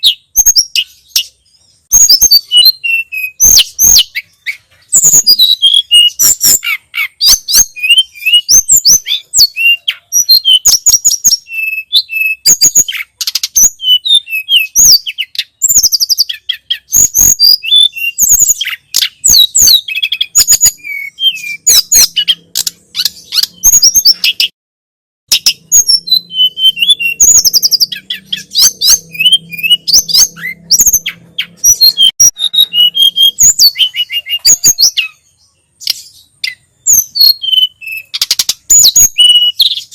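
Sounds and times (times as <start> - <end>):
songbird whistling: 0.0 - 24.5, 25.3 - 39.9.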